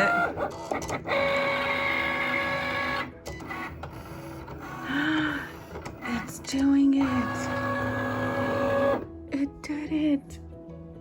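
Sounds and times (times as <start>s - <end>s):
cutting machine motors whining: 0.0s - 9.1s.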